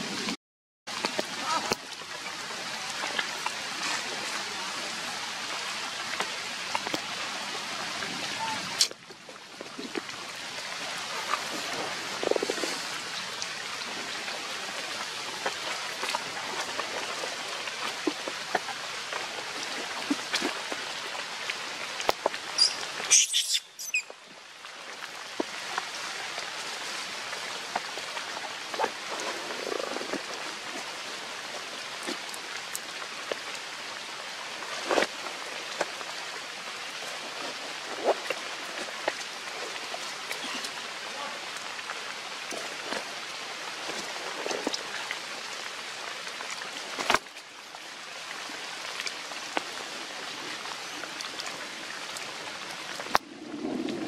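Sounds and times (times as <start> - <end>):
rain falling on wet ground: 0.0 - 54.0.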